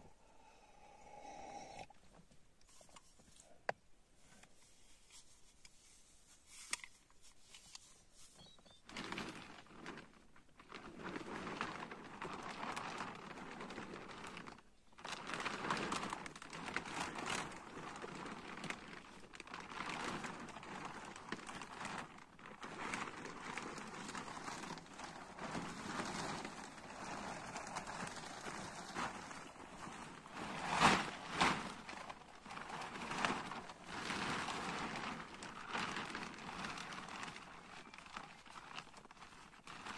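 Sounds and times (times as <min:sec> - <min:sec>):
plastic tarp crinkling and rustling: 0:04.8 - 0:39.9.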